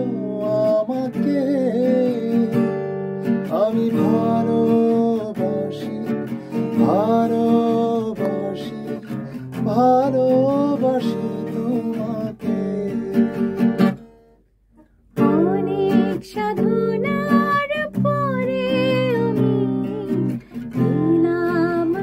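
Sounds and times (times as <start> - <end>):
person singing: 0.0 - 2.8, 3.4 - 13.8, 15.2 - 22.0
acoustic guitar strumming: 0.0 - 22.0.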